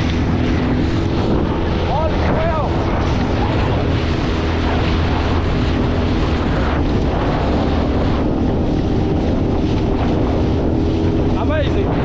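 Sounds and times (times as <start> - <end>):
outboard motor running: 0.0 - 12.0
water rushing past: 0.0 - 12.0
wind buffeting microphone: 0.0 - 12.0.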